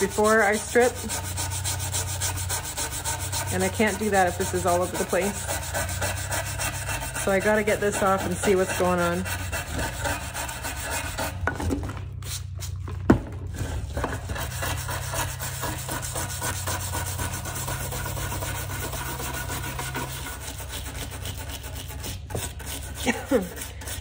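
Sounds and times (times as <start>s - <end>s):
wire brush scrubbing wood: 0.0s - 11.5s, 13.5s - 24.0s.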